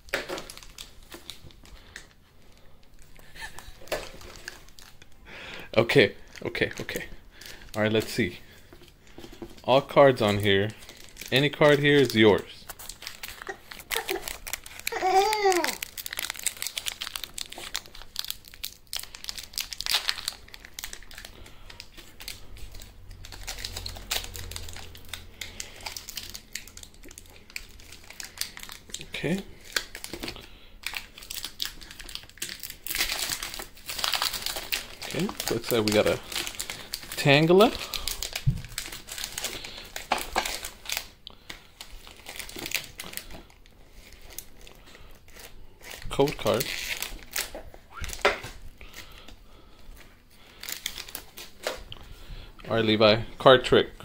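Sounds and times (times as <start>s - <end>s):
foil wrapper crinkling: 0.0s - 53.5s.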